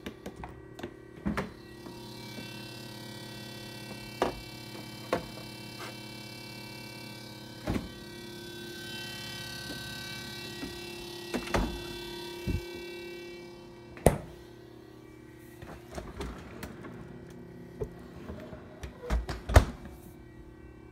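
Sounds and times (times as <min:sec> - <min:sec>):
refrigerator humming and whining: 0:00.0 - 0:20.9.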